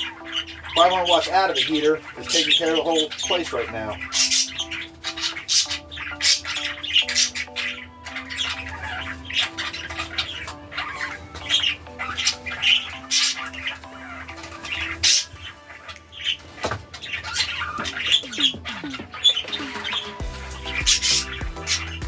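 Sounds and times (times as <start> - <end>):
budgerigars chattering: 0.0 - 22.0
slow held-note music: 0.0 - 22.0.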